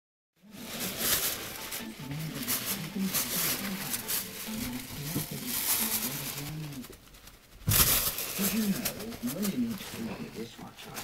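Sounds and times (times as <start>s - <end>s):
handling rustle: 0.5s - 11.0s.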